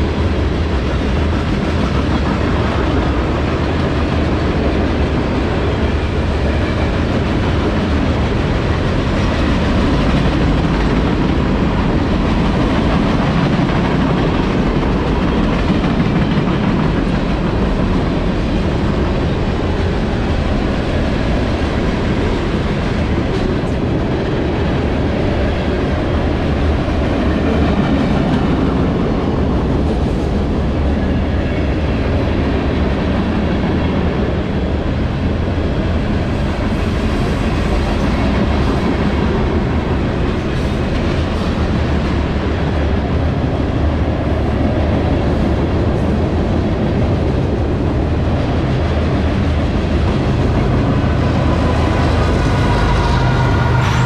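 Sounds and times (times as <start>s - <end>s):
diesel locomotive drone: 0.0s - 54.0s
freight train rumbling and rattling: 0.0s - 54.0s.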